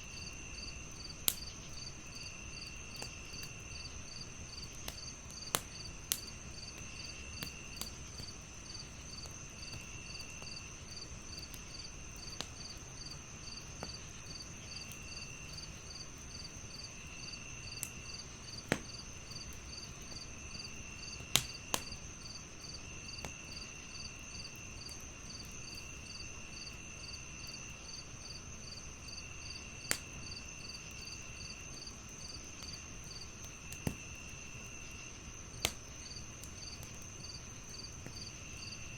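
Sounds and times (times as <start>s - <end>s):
crickets chirping: 0.0s - 38.9s
wood fire crackling: 0.0s - 38.9s
fire popping: 0.1s - 26.8s, 29.7s - 38.9s.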